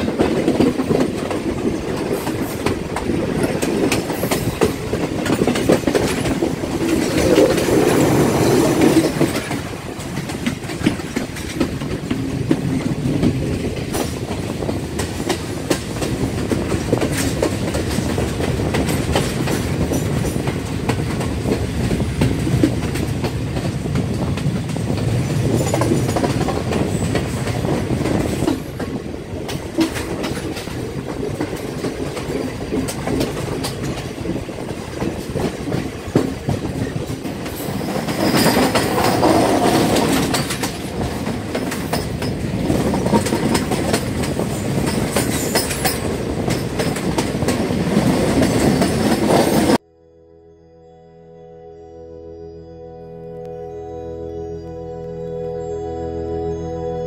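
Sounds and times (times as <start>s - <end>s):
train wheels rumbling on rails: 0.0s - 49.8s.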